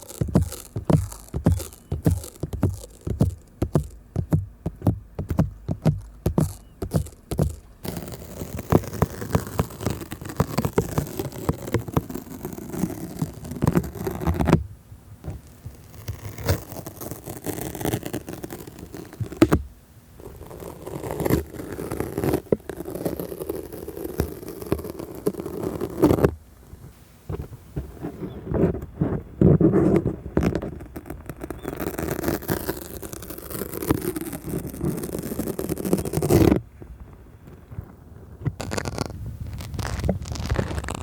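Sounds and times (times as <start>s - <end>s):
sticker peeling and tearing: 0.0s - 14.6s, 15.3s - 26.4s, 29.8s - 36.6s, 38.5s - 41.0s
stickers rubbed and tapped on microphone: 0.0s - 14.6s, 15.2s - 41.0s.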